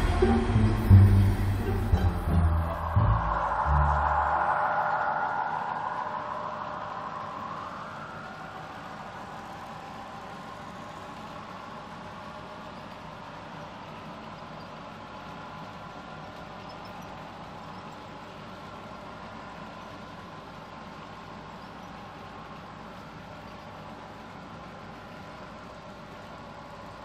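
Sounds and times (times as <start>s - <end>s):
faint whine: 0.0s - 27.0s.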